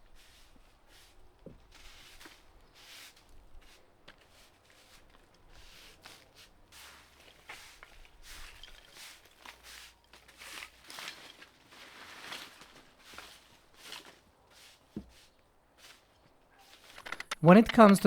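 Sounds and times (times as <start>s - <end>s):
footsteps scuffing and crunching: 0.1s - 16.8s.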